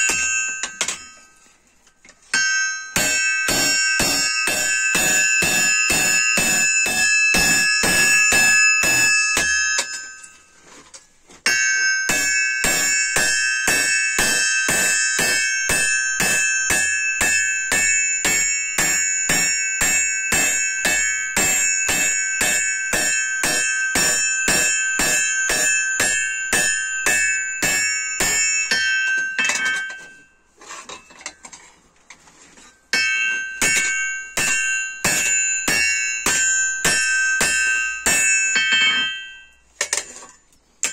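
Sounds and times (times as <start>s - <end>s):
hammer striking steel on anvil: 0.0s - 1.4s, 2.3s - 10.4s, 11.4s - 31.4s, 32.9s - 40.9s.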